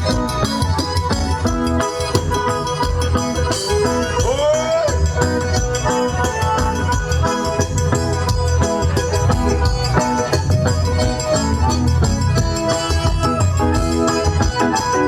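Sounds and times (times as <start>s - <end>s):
accordion melody: 0.0s - 15.0s
low drum beat: 0.0s - 15.0s
ticking percussion: 0.0s - 15.0s.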